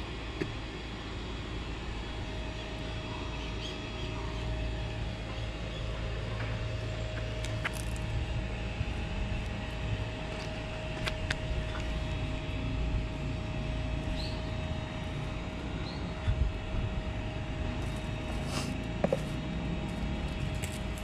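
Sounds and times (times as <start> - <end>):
faint constant hum: 0.0 - 21.0
low outdoor rumble: 0.0 - 21.0.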